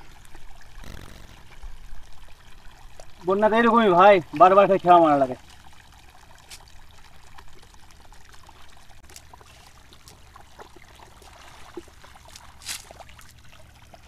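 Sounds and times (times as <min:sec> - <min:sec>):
water splashes: 0:00.0 - 0:14.0
water trickling and dripping: 0:00.0 - 0:14.0.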